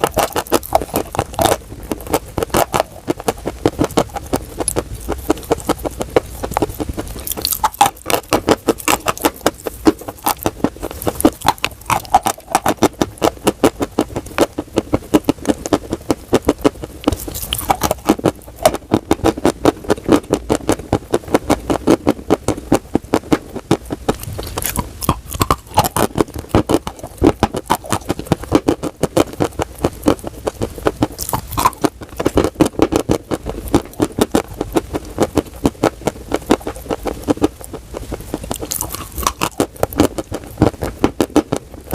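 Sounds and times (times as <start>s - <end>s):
chalk being chewed: 0.0s - 41.9s.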